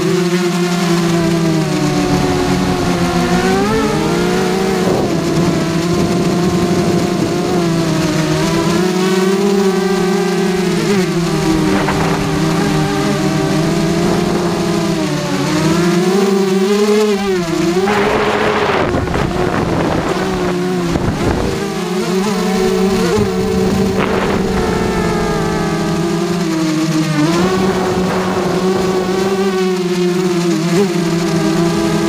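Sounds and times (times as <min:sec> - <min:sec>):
quadcopter propellers buzzing whine: 0:00.0 - 0:32.0.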